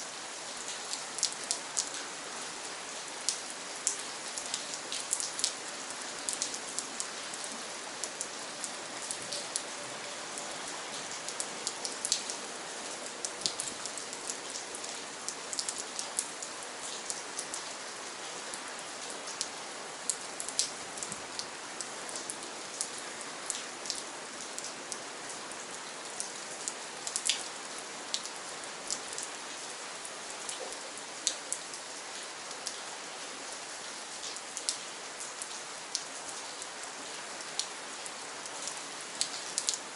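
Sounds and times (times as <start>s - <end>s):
sharp raindrops hitting close: 0.0s - 39.9s
steady rain hiss: 0.0s - 39.9s.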